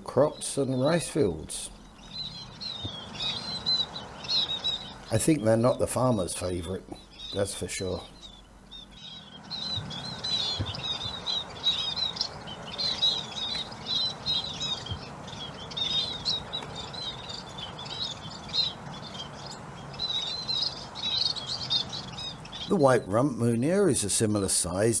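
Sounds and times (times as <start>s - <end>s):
flock of birds chirping: 0.0s - 25.0s
steady background noise: 0.0s - 25.0s.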